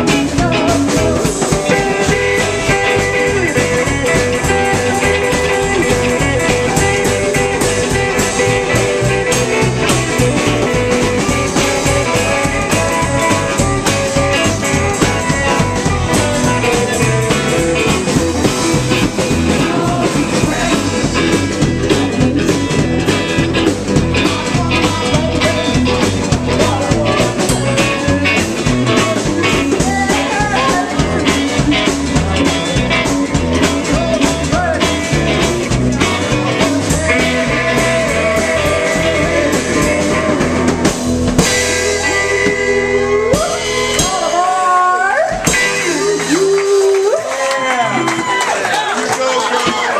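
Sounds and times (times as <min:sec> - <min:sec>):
drums: 0:00.0 - 0:49.9
electric guitar: 0:00.0 - 0:49.9
upright bass: 0:00.0 - 0:49.9.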